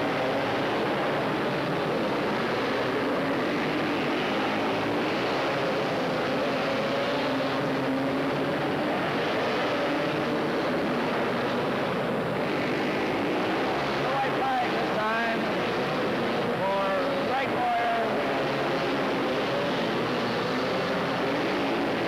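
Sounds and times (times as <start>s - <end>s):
racing engines revving: 0.0s - 22.0s.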